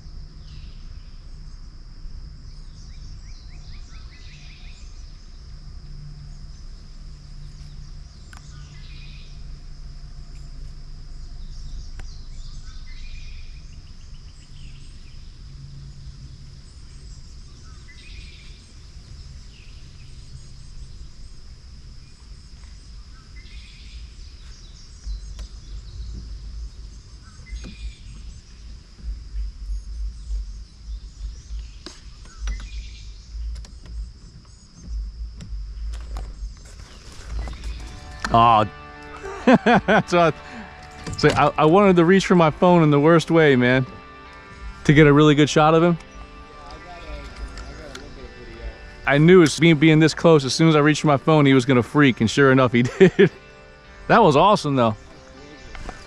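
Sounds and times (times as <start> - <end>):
high-pitched insect drone: 0.0 - 56.0
low rumble: 0.0 - 56.0
low bumps: 5.0 - 56.0.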